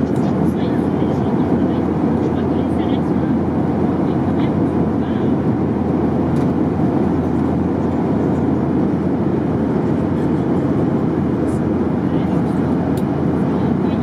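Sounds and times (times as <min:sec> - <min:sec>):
airplane cabin noise: 0:00.0 - 0:14.0.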